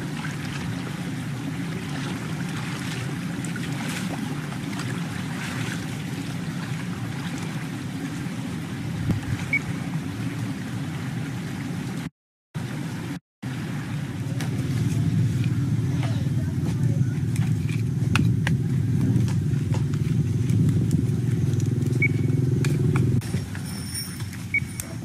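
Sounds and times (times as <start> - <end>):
wind on microphone: 0.0 - 11.6, 14.0 - 25.0.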